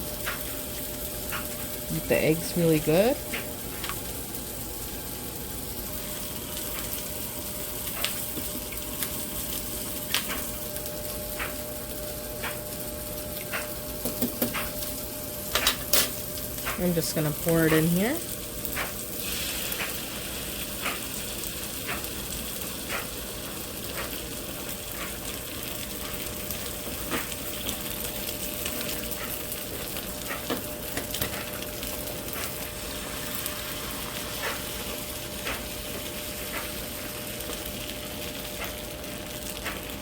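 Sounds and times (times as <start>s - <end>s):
omelette sizzling in a pan: 0.0s - 40.0s.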